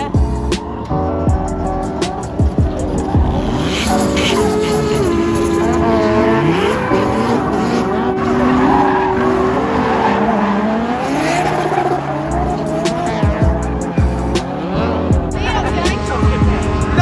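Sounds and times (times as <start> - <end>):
car engine revving: 0.0 - 17.0
tyres squealing and skidding: 0.4 - 17.0.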